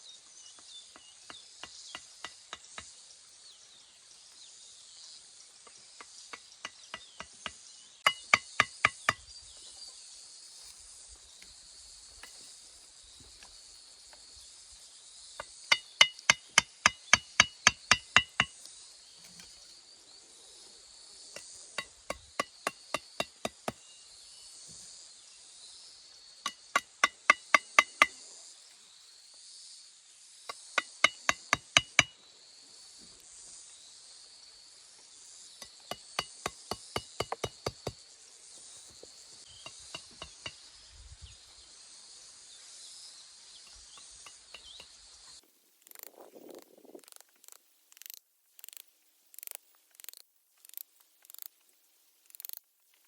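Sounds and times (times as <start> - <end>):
steady high hiss: 1.5 - 53.0.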